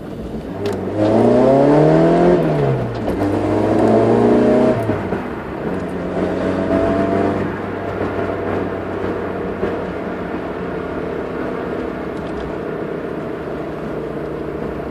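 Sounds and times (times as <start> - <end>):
car engine running steadily: 0.0 - 14.9.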